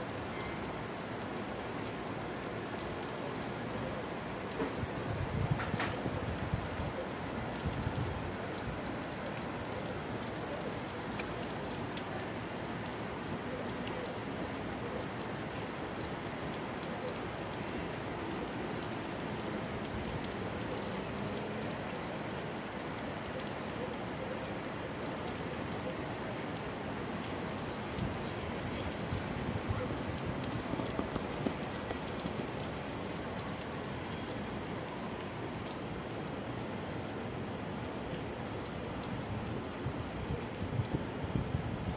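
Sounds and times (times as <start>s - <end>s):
rain falling: 0.0s - 41.9s
raindrops pattering on surfaces: 0.0s - 41.9s.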